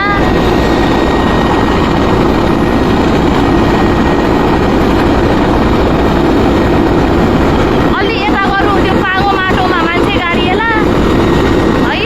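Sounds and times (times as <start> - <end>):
helicopter rotor and engine: 0.0 - 12.0
high whine: 0.0 - 12.0.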